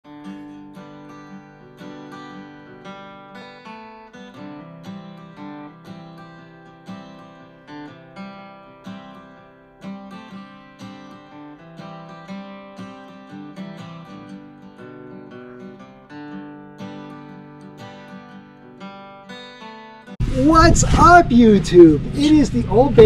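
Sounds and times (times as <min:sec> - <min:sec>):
acoustic guitar strummed chords: 0:00.1 - 0:23.0.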